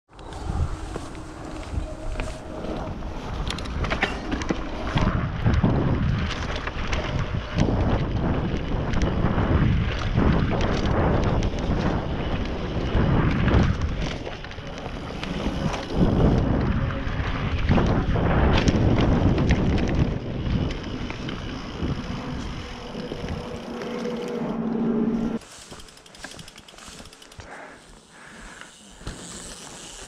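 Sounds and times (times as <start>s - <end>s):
wind rushing over microphone: 0.1s - 25.4s
bike knocking and rattling: 0.2s - 24.2s, 25.4s - 30.0s.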